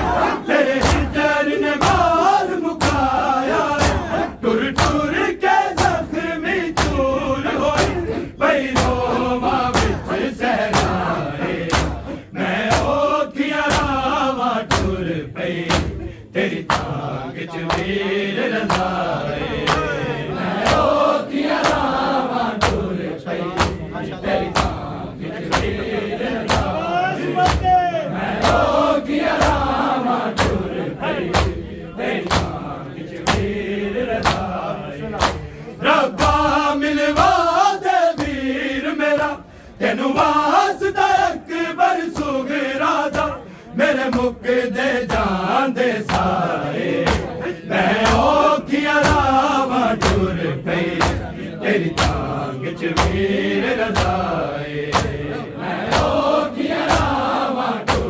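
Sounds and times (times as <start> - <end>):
men chanting in unison: 0.0 - 58.0.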